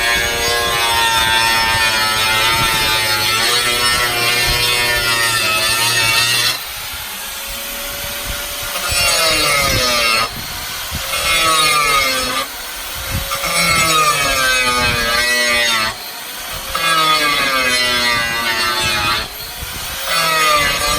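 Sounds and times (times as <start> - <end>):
electric power saw cutting wood: 0.0 - 20.9.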